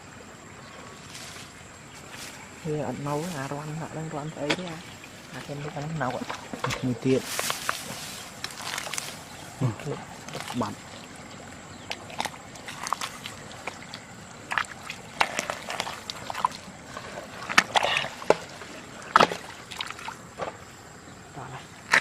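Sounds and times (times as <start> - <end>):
water sloshing and splashing: 0.0 - 22.0.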